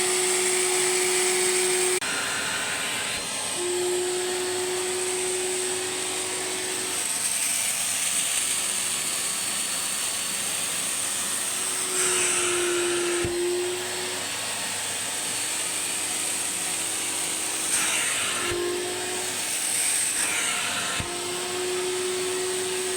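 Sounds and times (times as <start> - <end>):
vacuum cleaner running: 0.0 - 22.9.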